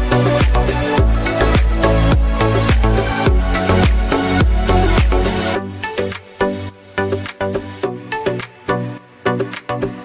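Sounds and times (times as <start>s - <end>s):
dance music with beat: 0.0s - 10.0s.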